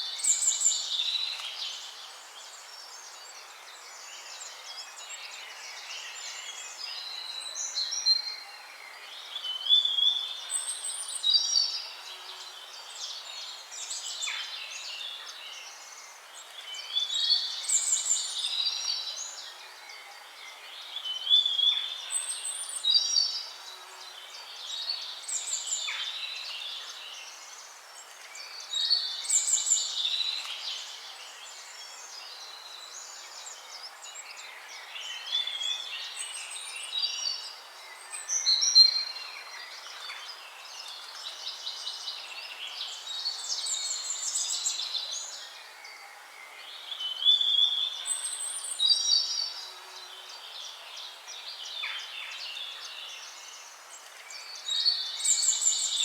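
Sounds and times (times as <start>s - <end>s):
faint background hiss: 0.0s - 56.0s
songbirds singing: 0.0s - 56.0s.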